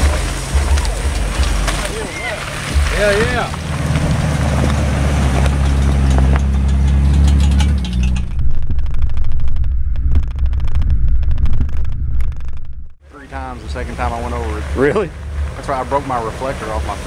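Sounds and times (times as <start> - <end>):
car engine droning: 0.0 - 17.0
muffled uneven rumble with jolts: 0.0 - 17.0.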